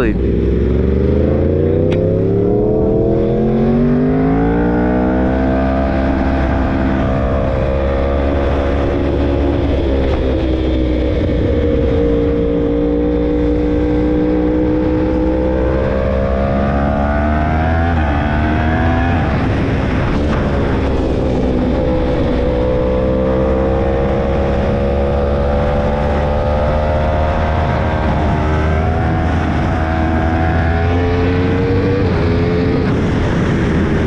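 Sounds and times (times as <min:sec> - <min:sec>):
motorcycle engine revving: 0:00.0 - 0:34.0
wind buffeting rumble: 0:00.0 - 0:34.0.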